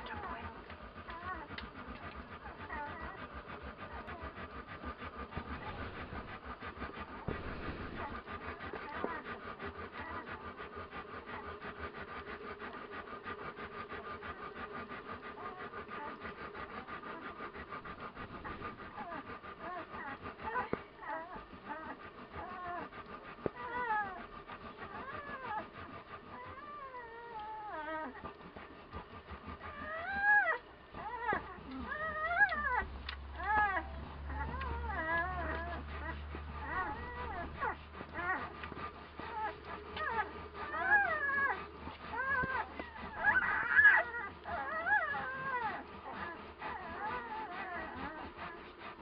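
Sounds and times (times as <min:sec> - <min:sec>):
puppies suckling: 0:00.0 - 0:49.0.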